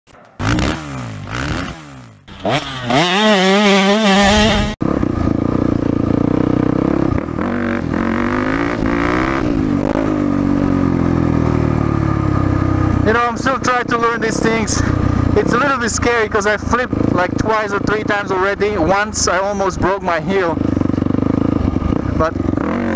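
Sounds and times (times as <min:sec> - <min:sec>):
dirt bike engine revving: 0:00.2 - 0:22.9.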